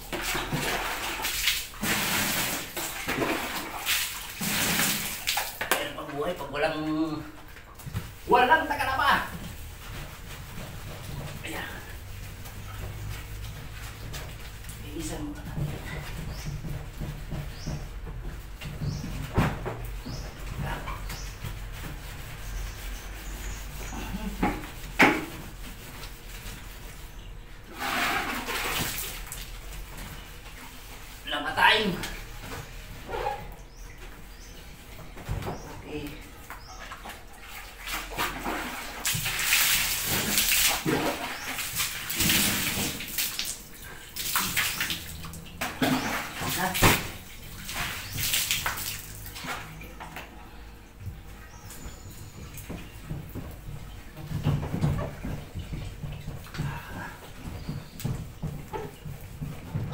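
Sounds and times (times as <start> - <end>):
tub being scrubbed: 0.0 - 59.9
water splashing and sloshing: 0.0 - 59.9.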